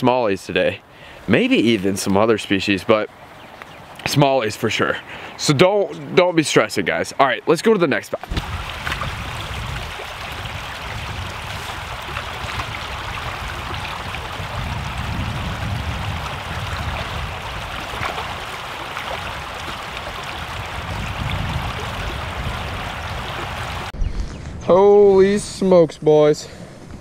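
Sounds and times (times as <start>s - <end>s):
creek water rushing: 0.8s - 23.9s.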